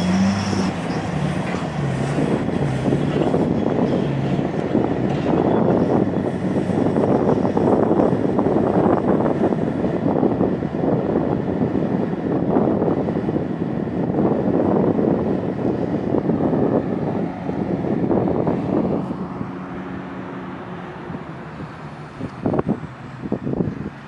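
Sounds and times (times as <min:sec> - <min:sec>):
heavy diesel machinery engine drone: 0:00.0 - 0:24.0.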